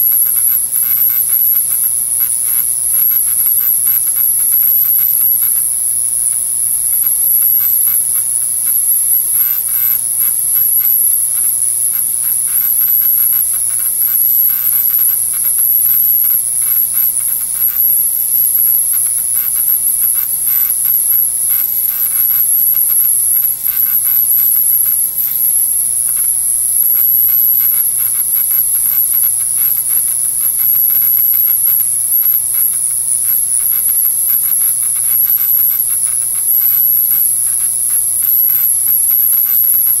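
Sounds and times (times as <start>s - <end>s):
ultrasonic cleaner whine: 0.0s - 40.0s.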